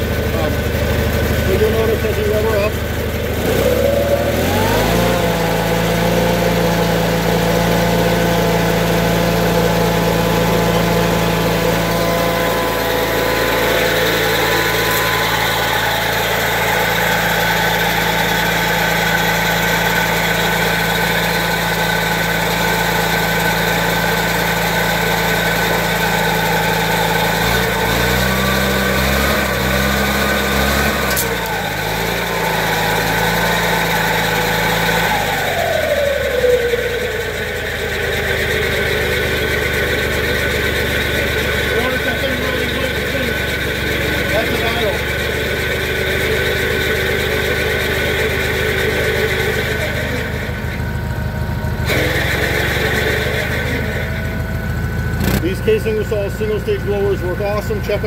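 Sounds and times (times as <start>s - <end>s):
snowblower auger spinning: 0.0s - 58.0s
tractor engine running: 0.0s - 58.0s.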